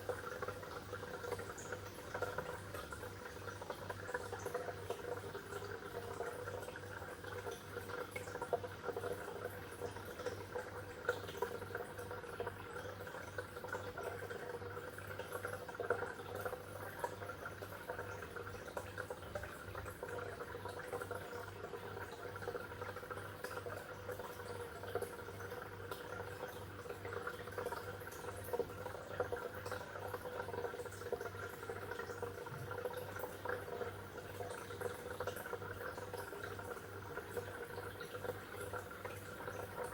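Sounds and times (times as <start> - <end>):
low steady hum: 0.0 - 39.9
water bubbling and trickling: 0.0 - 39.9
water drips and splashes: 0.0 - 39.9.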